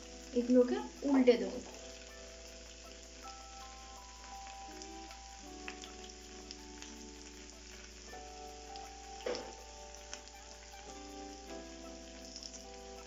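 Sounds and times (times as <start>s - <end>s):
chicken sizzling in frying pan: 0.0s - 13.0s
soft background music: 0.0s - 13.0s.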